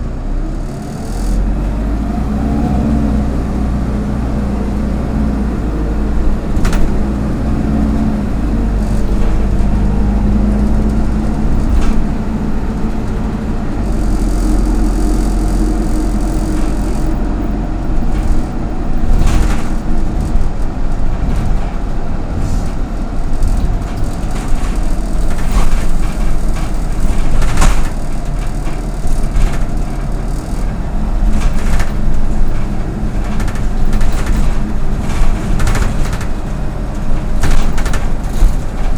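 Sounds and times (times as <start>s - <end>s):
bus body knocks and rattles: 0.0s - 38.9s
bus engine droning: 0.0s - 38.9s.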